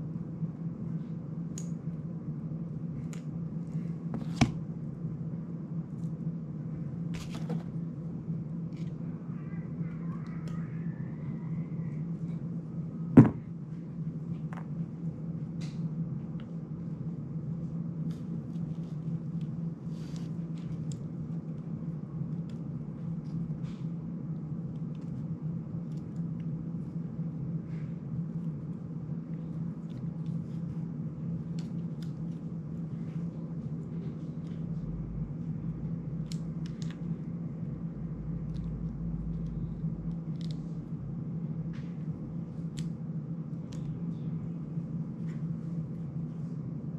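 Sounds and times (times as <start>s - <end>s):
faint low rumble: 0.0s - 46.9s
steady low hum: 0.0s - 46.9s.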